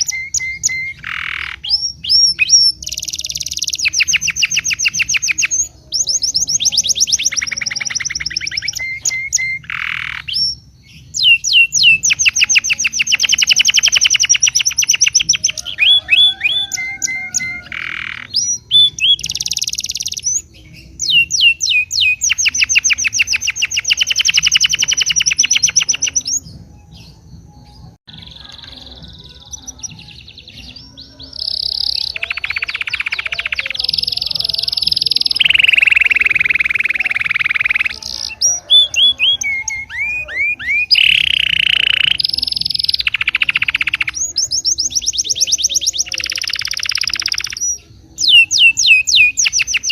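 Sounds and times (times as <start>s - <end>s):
bird whistled phrases: 0.0s - 26.5s, 28.1s - 49.9s
songbirds singing trills: 0.0s - 49.9s.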